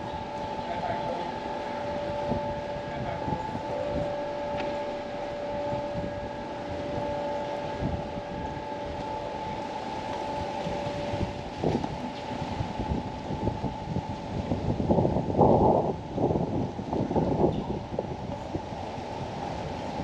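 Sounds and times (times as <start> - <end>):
mechanical hum with steady tones: 0.0 - 20.0
wind noise on microphone: 0.0 - 20.0.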